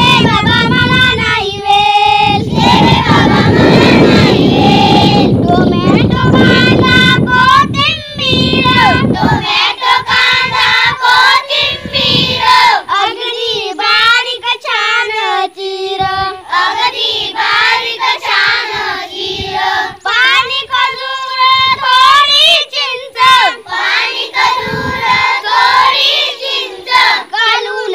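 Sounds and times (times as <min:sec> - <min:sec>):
children singing in unison: 0:00.0 - 0:27.9.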